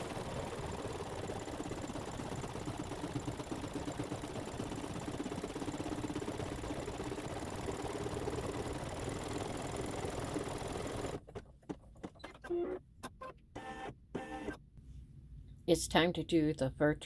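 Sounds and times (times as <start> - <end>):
embroidery machine stitching: 0.0 - 14.6.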